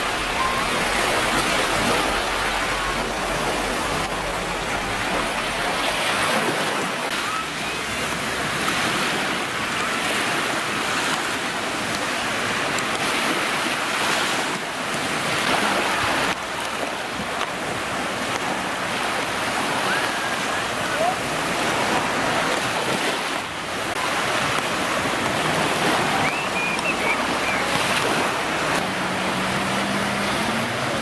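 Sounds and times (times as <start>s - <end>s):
water rushing and splashing: 0.0s - 31.0s.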